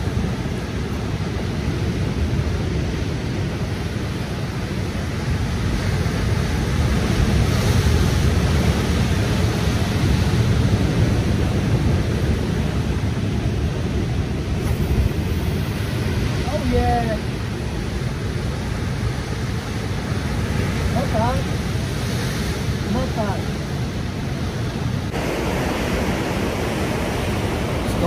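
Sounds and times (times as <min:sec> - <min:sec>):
ocean surf breaking on rocks: 0:00.0 - 0:28.0
wind buffeting microphone: 0:00.0 - 0:28.0.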